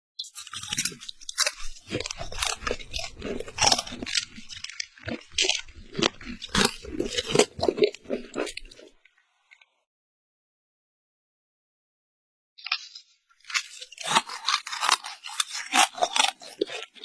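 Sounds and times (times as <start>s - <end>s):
crunching of crisp snack chips: 0.2s - 9.6s, 12.6s - 17.0s.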